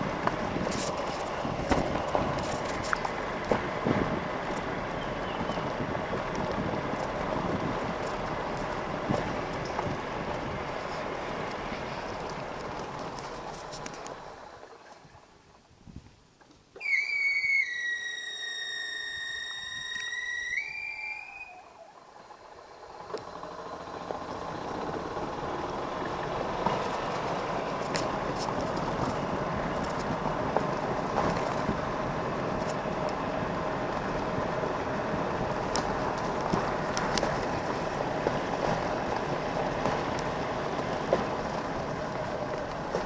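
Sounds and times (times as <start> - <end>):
golf cart whine: 0.0 - 15.6, 16.6 - 43.0
tyres rolling over gravel: 0.0 - 15.7, 19.8 - 43.0.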